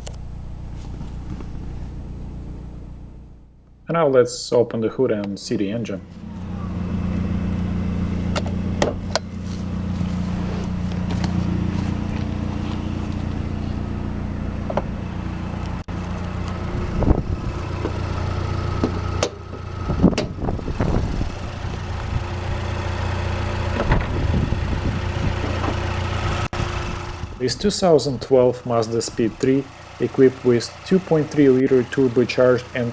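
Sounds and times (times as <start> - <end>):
car engine idling: 0.0 - 3.9, 5.4 - 32.9.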